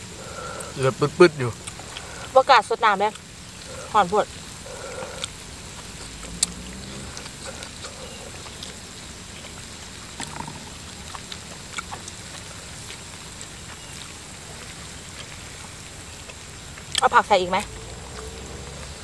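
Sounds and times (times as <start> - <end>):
broth simmering: 0.0 - 19.0.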